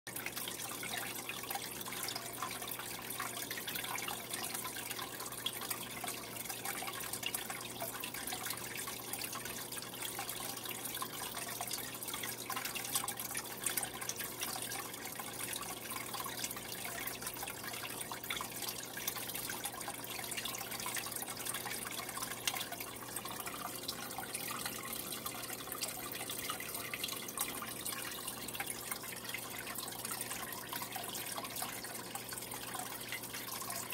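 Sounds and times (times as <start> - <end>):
water trickling and dripping: 0.1 - 33.9.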